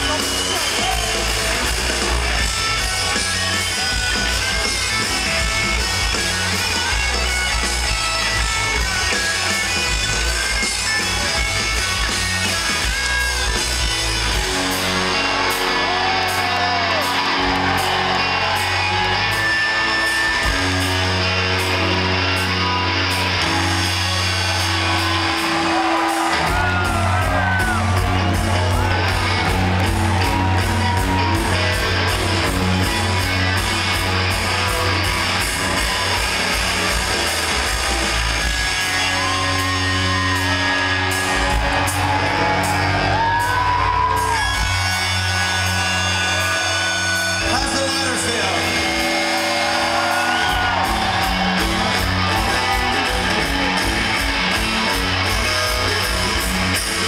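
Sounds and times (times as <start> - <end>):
audience shouts: 0.0 - 57.0
rock band playing live: 0.0 - 57.0.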